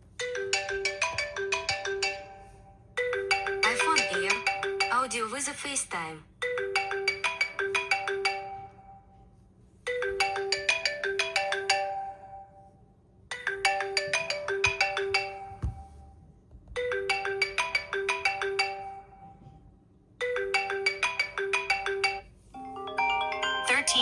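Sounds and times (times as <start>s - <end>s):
phone ringtone: 0.2s - 5.4s, 6.4s - 16.2s, 16.8s - 19.5s, 20.2s - 24.0s.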